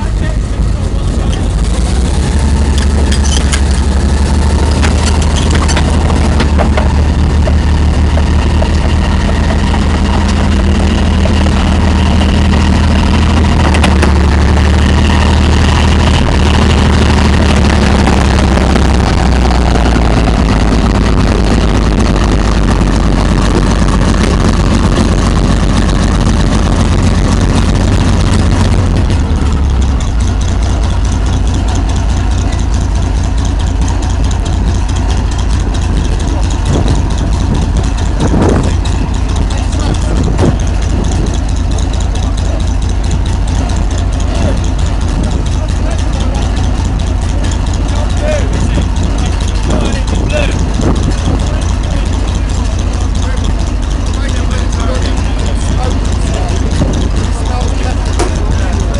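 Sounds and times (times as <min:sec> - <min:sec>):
tank engine droning: 0:00.0 - 0:58.9
metallic clanks: 0:01.1 - 0:58.9.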